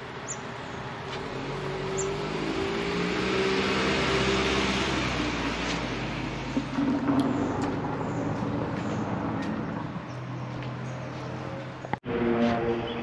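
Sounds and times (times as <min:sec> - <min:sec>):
vehicle engine passing: 0:00.6 - 0:12.9.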